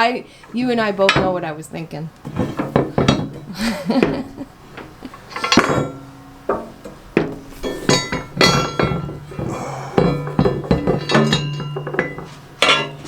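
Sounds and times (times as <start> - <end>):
metal parts and tools clinking: 2.2 - 13.0.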